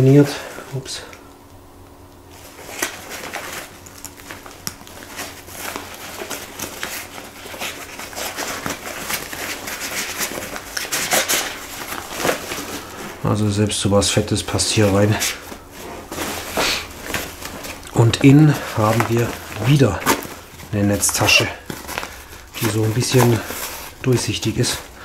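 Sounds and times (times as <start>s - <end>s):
nylon fabric rustling: 2.3s - 25.0s.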